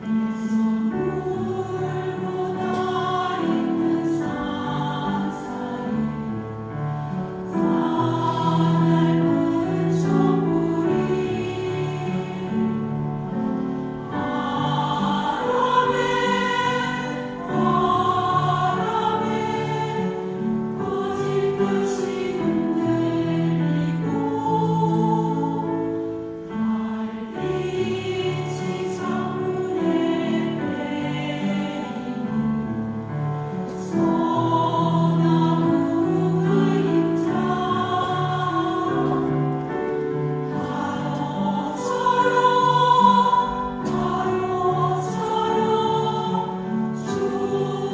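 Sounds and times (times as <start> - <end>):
choir singing a hymn: 0.0 - 47.9.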